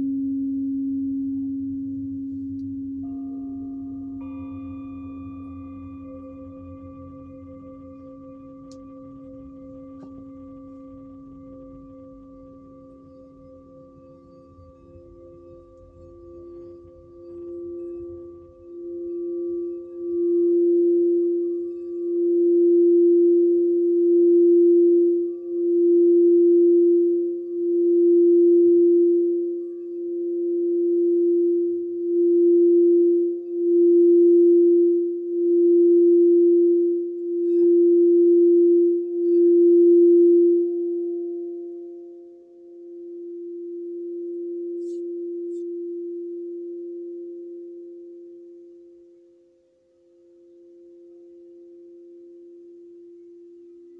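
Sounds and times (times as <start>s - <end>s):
singing bowl tone: 0.0s - 53.9s.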